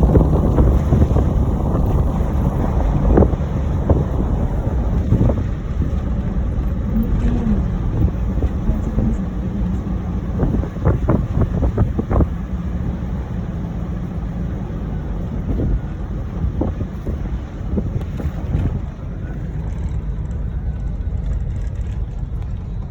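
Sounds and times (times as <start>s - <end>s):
car engine and tyres rumbling: 0.0s - 22.9s
wind noise on microphone: 0.0s - 22.9s.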